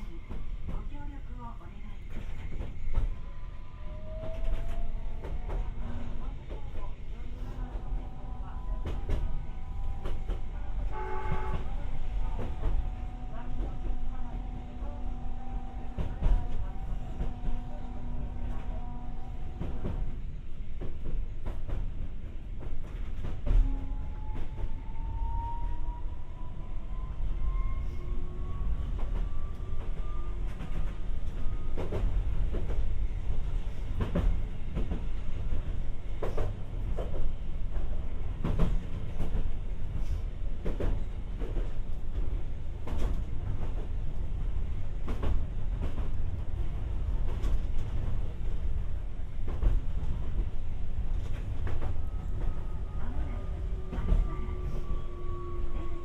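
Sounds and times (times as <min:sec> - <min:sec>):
rail car rolling rumble: 0:00.0 - 0:56.0.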